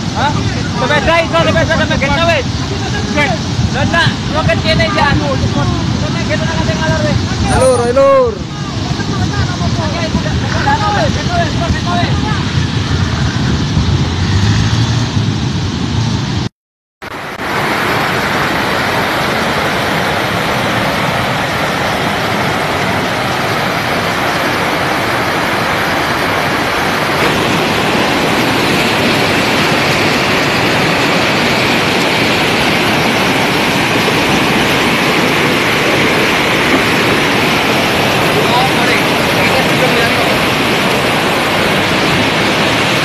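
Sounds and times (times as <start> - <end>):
muddy flood torrent rushing: 0.0 - 16.5, 17.1 - 43.0.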